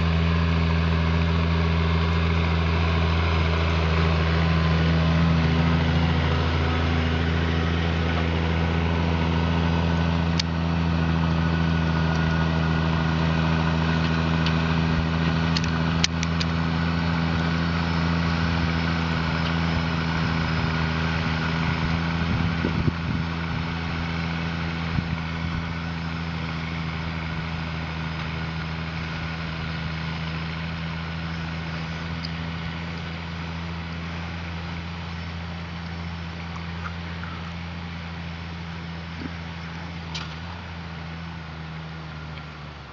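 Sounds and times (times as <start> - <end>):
farm machine engine running: 0.0 - 42.9.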